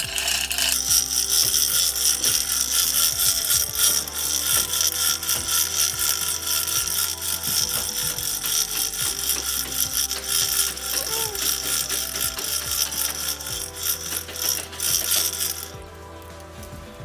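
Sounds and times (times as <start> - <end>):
ratchet pawl clicking: 0.0 - 15.8
chain rattling: 0.0 - 16.2.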